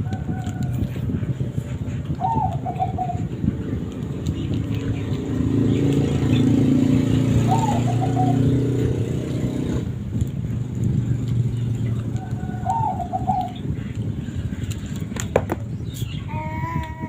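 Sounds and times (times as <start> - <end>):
vehicle engine running: 0.0 - 16.2.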